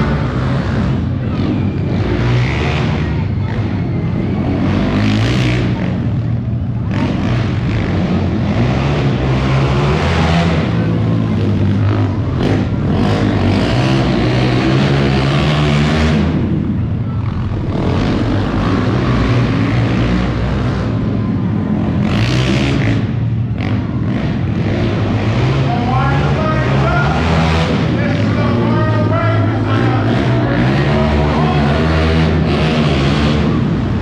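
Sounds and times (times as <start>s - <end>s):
monster truck engine revving: 0.0s - 34.0s.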